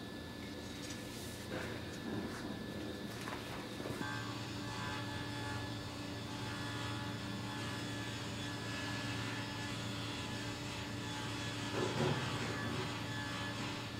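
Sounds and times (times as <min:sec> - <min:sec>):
machine hum: 0:00.0 - 0:13.9.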